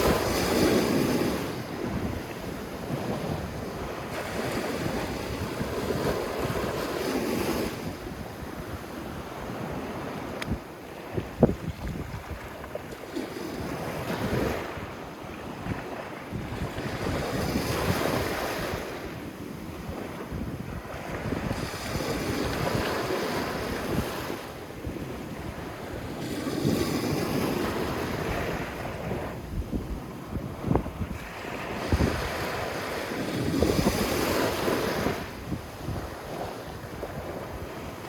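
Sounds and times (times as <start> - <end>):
waves breaking on a beach: 0.0 - 38.0
wind buffeting microphone: 0.0 - 38.0.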